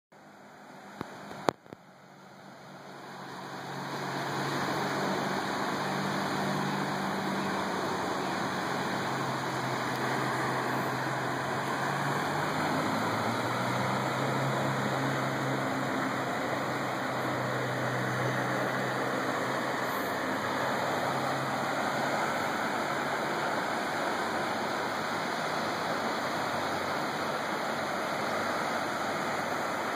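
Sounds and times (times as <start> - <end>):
creek water rushing: 0.2 - 29.9.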